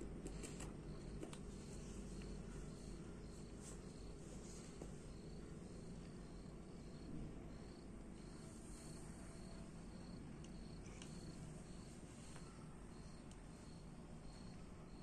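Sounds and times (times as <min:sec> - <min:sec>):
low background hum: 0:00.0 - 0:15.0
cricket chirping: 0:00.3 - 0:15.0.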